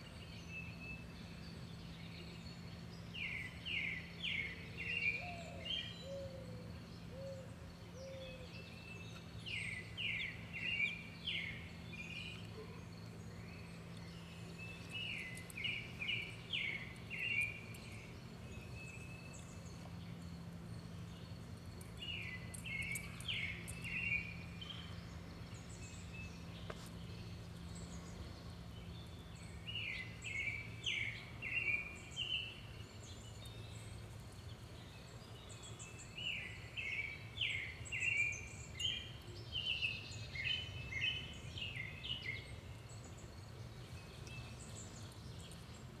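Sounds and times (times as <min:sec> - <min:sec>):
faint low hum: 0:00.0 - 0:46.0
songbird singing: 0:00.0 - 0:46.0.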